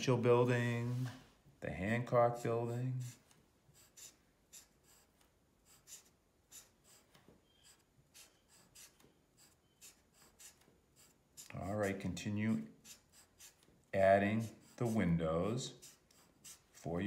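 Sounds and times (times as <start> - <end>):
marker scratching on paper: 2.6 - 17.0.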